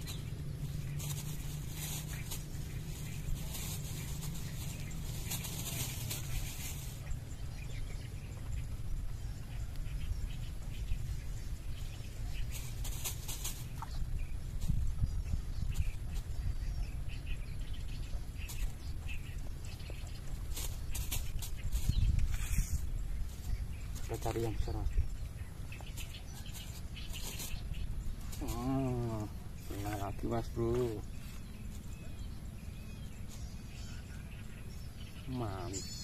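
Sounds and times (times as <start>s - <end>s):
wind rumble on microphone: 0.0s - 35.2s
bird chirps: 0.0s - 36.0s.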